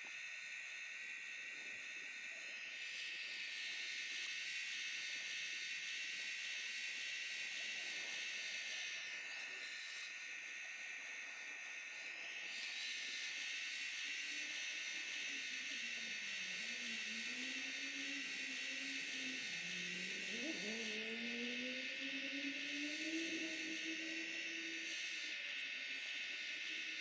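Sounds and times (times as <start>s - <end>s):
electric motor and pump whine: 0.0s - 27.0s.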